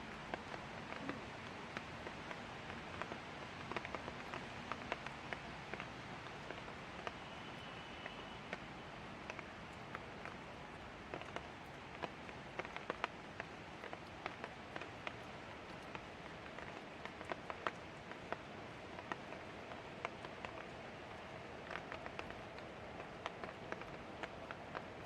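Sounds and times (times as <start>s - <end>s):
raindrops ticking on surface: 0.0s - 25.0s.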